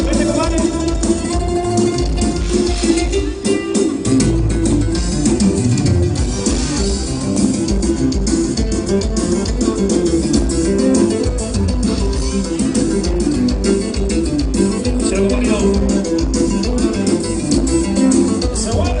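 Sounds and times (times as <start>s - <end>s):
latin dance music with guitar: 0.0s - 19.0s.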